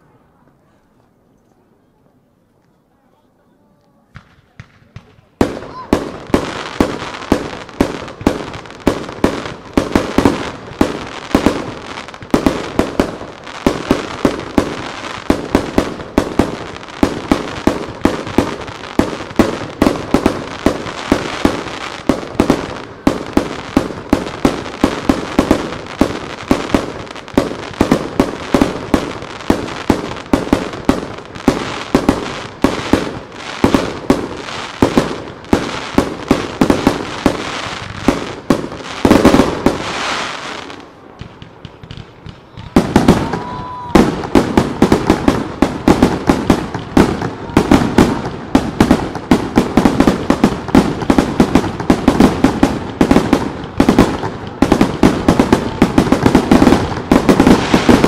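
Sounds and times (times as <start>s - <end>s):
fireworks bursting: 3.4s - 58.0s.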